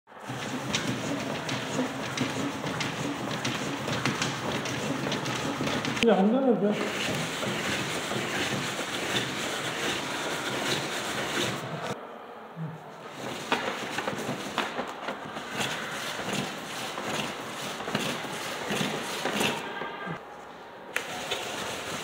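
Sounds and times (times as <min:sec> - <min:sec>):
cardboard parts scraping and rattling: 0:00.1 - 0:06.0, 0:06.8 - 0:12.0, 0:13.1 - 0:19.8, 0:21.0 - 0:22.0.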